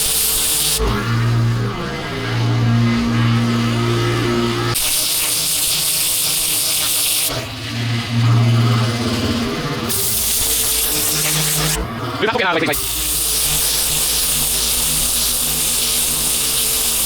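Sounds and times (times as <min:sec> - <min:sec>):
pressure washer motor hum: 0:00.0 - 0:17.0.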